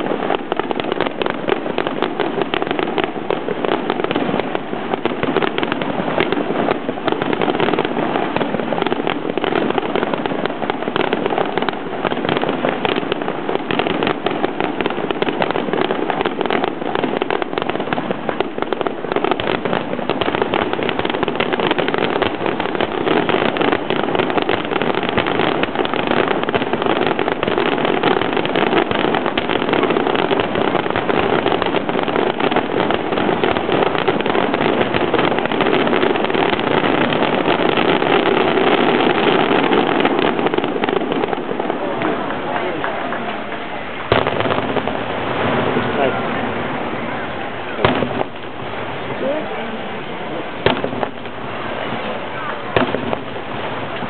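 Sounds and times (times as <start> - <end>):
firework shells bursting: 0.0 - 49.6, 50.6 - 54.0.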